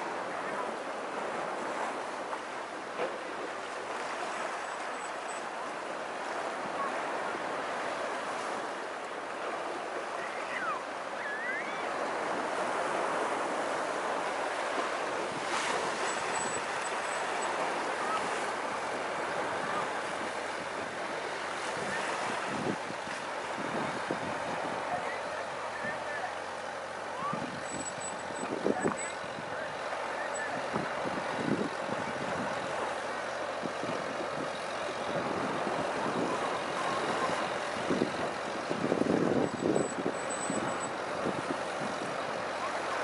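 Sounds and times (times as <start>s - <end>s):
small waves breaking on sand: 0.0s - 43.0s.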